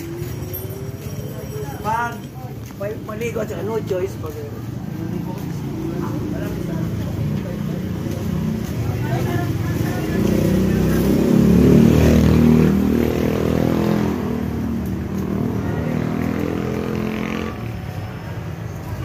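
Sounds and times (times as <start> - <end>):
motorcycle engines passing: 0.0 - 19.0.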